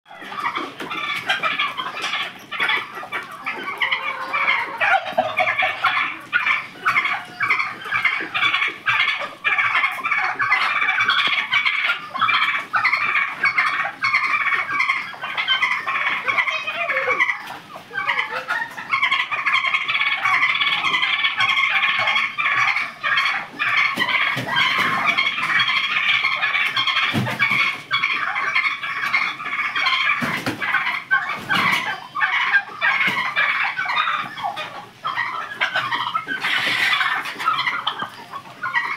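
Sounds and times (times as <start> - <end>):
turkeys calling: 0.1 - 38.9.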